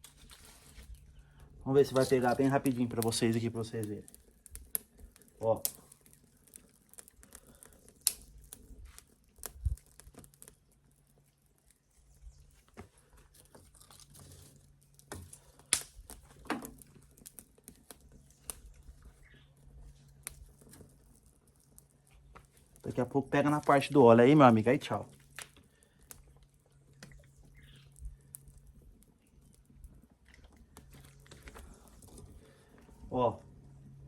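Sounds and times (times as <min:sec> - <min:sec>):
fire crackling in dry leaves: 0:00.0 - 0:34.0.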